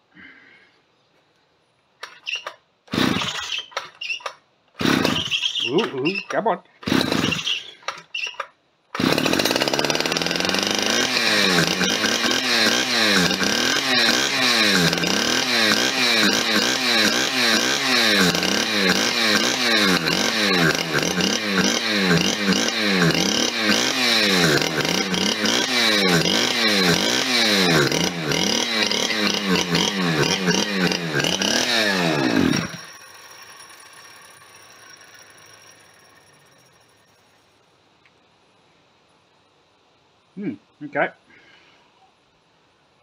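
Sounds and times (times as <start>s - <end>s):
chainsaw engine revving: 2.0s - 36.9s.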